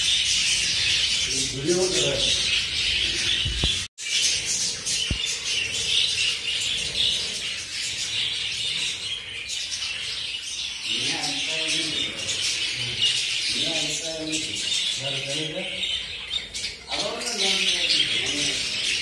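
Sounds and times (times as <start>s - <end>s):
budgerigars chattering and warbling: 0.0s - 19.0s.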